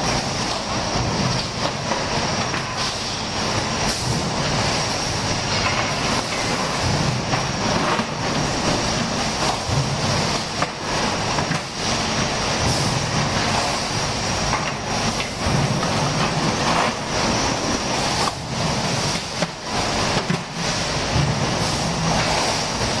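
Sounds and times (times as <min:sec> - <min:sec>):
conveyor and rollers clattering: 0:00.0 - 0:23.0.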